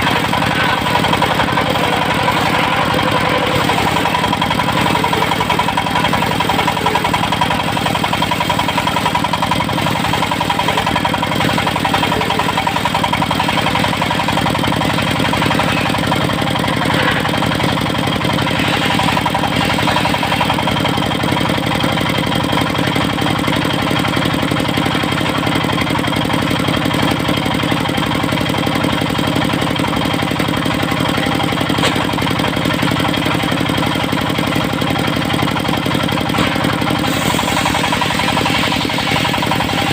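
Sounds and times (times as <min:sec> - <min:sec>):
saw blade whining: 0:00.0 - 0:25.1, 0:29.0 - 0:39.9
sawmill engine chugging: 0:00.0 - 0:39.9.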